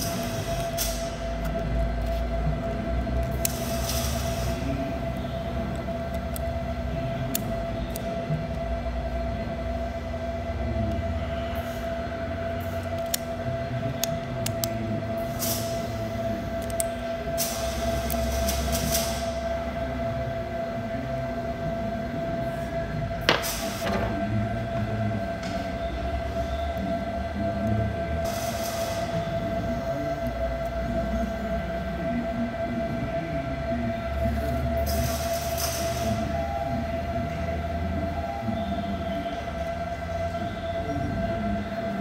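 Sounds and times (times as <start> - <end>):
workshop droning hum: 0.0 - 42.0.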